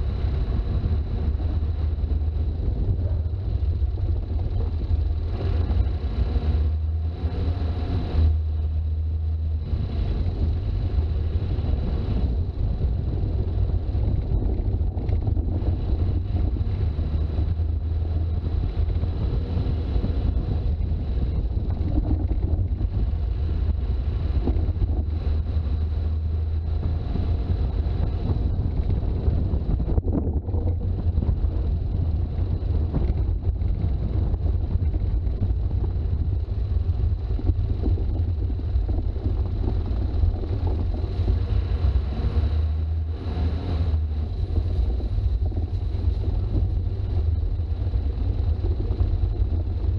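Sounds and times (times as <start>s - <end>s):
vehicle engine and road rumble: 0.0s - 49.9s.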